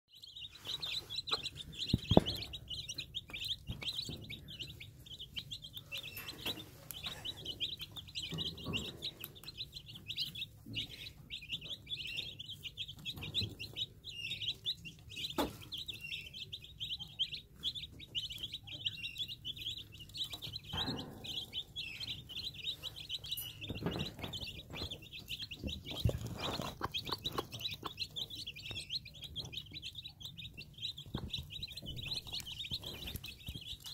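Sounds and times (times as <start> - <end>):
chicks peeping: 0.1 - 33.9
hen clucking: 0.1 - 33.9.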